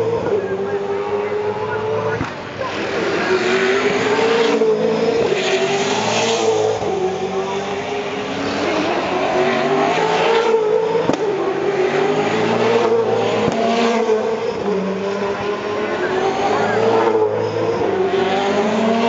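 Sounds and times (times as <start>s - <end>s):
racing car engines passing: 0.0s - 19.0s.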